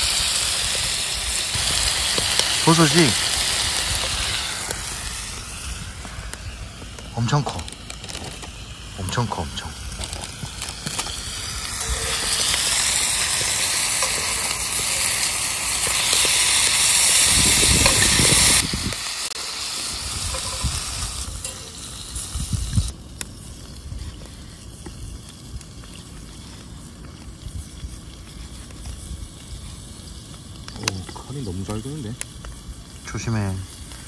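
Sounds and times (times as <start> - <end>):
meat and mushrooms sizzling in pan: 0.0 - 34.0.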